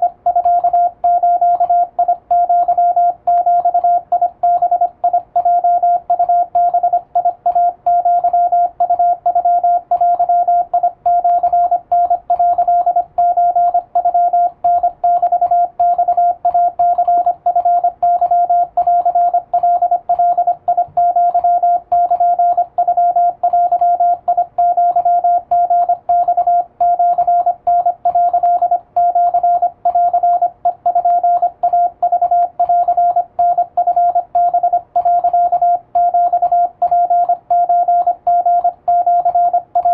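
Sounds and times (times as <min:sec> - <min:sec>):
morse code tone beeping: 0:00.0 - 0:39.9.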